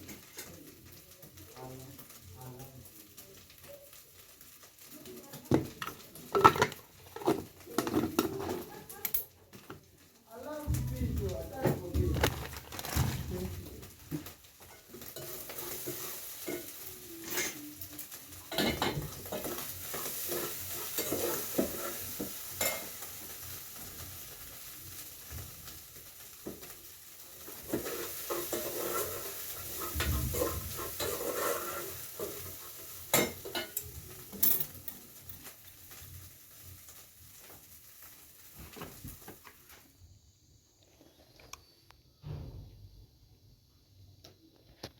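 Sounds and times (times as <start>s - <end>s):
food sizzling in a frying pan: 0.0s - 41.2s.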